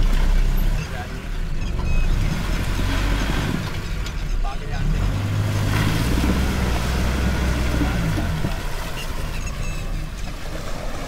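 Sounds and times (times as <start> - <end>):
car engine working under load: 0.0 - 11.0
water and mud churning under tyres: 0.0 - 11.0.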